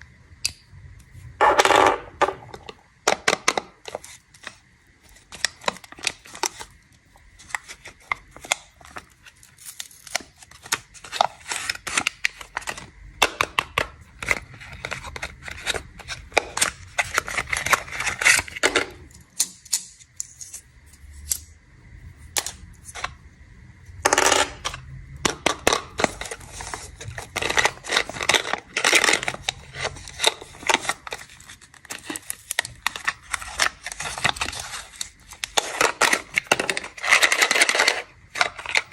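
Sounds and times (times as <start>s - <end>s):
plastic wrappers crinkling: 3.6s - 20.6s, 24.2s - 38.9s.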